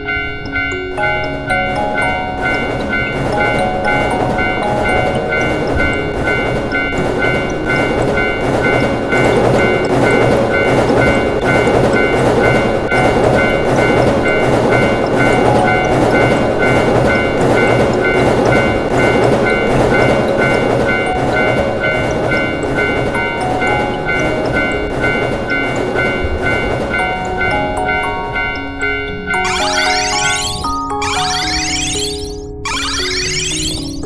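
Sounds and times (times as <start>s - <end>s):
train rumble and clatter on rails: 0.0s - 31.3s
light background melody: 0.0s - 34.0s
railroad crossing alarm ringing: 0.0s - 34.0s.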